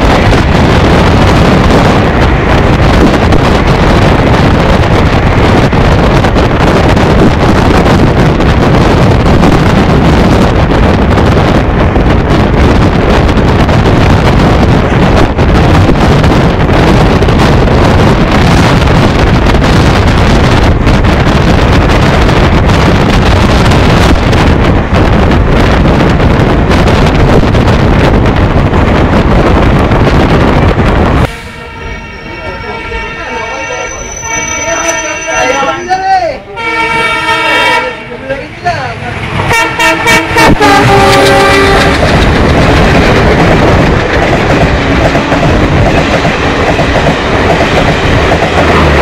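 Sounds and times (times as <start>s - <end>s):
wind buffeting microphone: 0.0s - 35.2s, 38.6s - 49.0s
train running noise: 0.0s - 49.0s.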